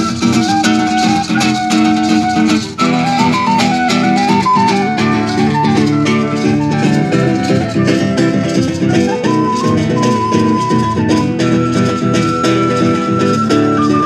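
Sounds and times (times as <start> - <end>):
recorder melody: 0.0 - 14.0
shaker rattling: 0.0 - 14.0
strummed acoustic guitar: 0.0 - 14.0.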